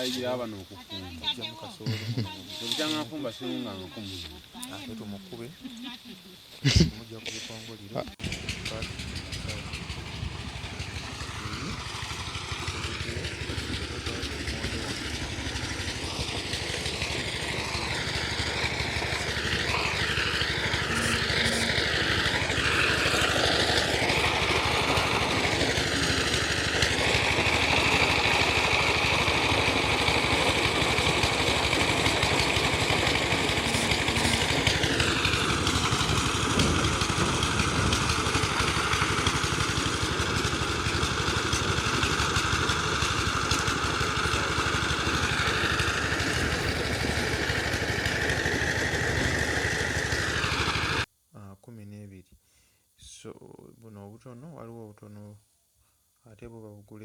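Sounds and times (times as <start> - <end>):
maize sheller engine running: 0.0 - 51.1.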